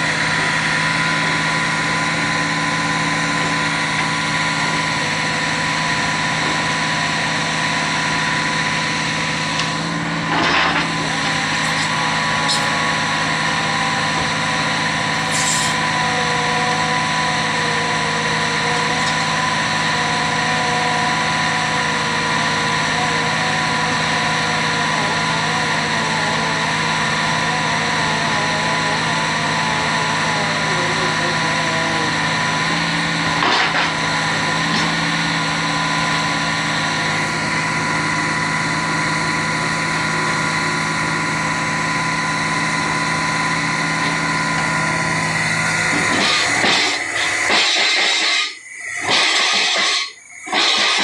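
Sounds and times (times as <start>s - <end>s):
piling rig engine whining: 0.0s - 51.0s.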